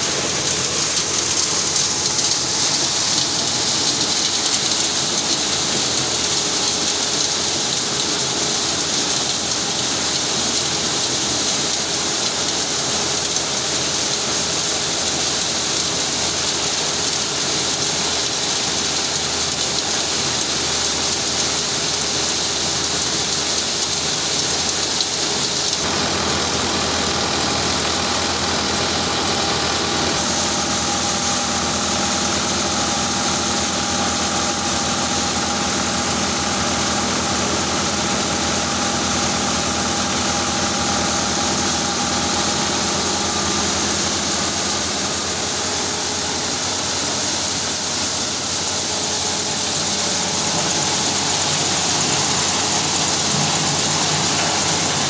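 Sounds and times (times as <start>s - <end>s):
hiss of kernels and husks: 0.0s - 26.0s, 26.8s - 55.0s
maize sheller running: 0.0s - 55.0s
tractor diesel engine: 0.0s - 55.0s.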